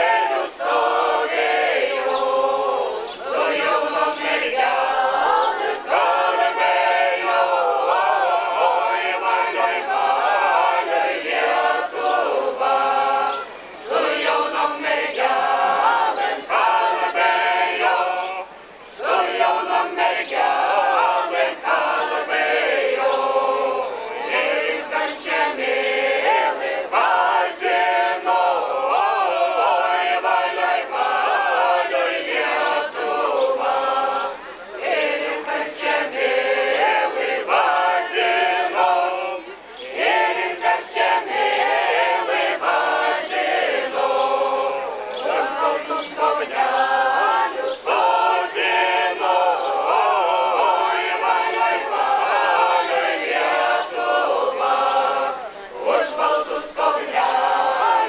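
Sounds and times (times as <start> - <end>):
folk choir singing unaccompanied: 0.0 - 58.0.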